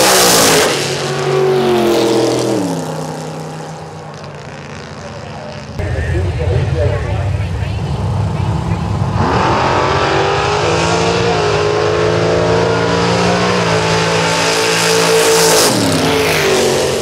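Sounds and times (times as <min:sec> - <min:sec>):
drag cars racing at full throttle: 0:00.0 - 0:17.0.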